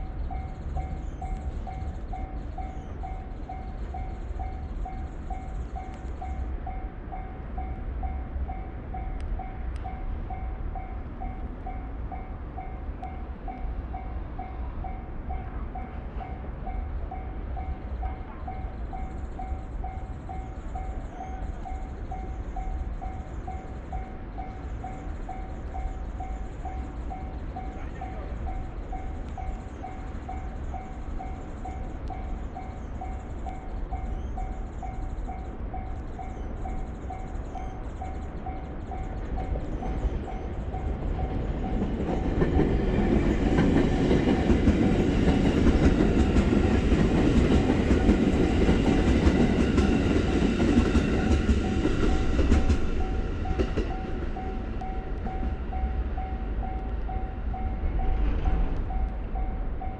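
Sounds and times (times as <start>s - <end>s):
electric train passing: 0.0s - 59.9s
level-crossing warning bell ringing: 0.0s - 59.9s.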